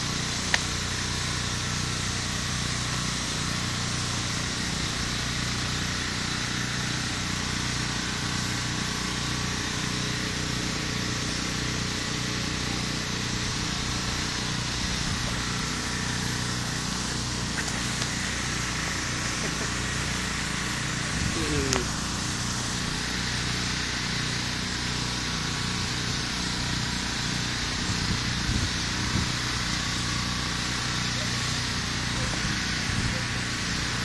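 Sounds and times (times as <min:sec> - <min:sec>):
motor hum with hiss: 0:00.0 - 0:34.0.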